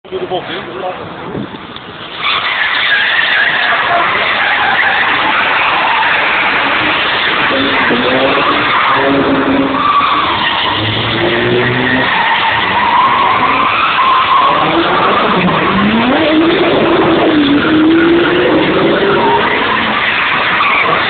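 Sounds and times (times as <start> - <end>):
tyres skidding: 0.1 - 21.0
car engines at high revs: 1.7 - 21.0.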